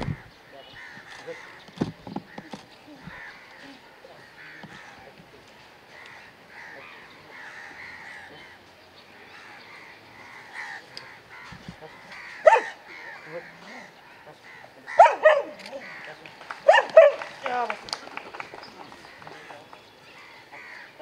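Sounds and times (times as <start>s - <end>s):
crows cawing: 0.0s - 21.0s.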